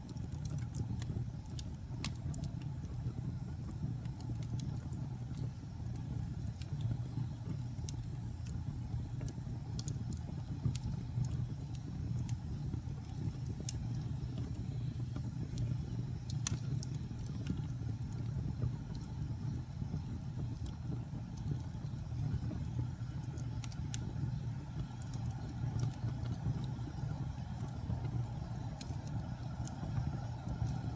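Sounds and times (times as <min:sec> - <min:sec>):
fire crackles and pops: 0:00.0 - 0:30.9
fire rumbling: 0:00.0 - 0:30.9.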